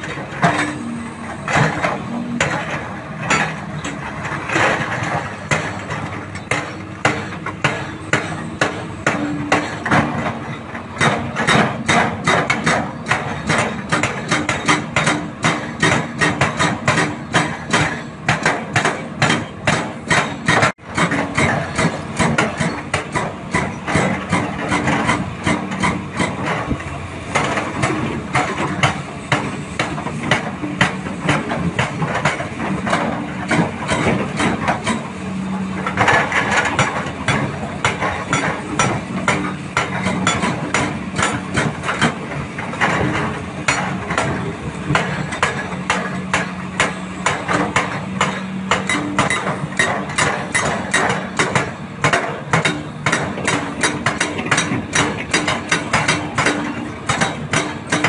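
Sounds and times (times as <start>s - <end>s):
diesel engines running: 0.0s - 58.0s
hydraulic breakers hammering rock: 0.0s - 58.0s.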